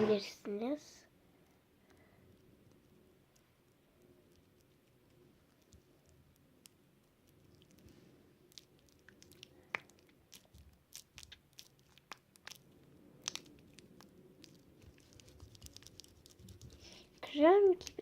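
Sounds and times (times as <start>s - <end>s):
sticky slime squelching: 1.9s - 18.0s.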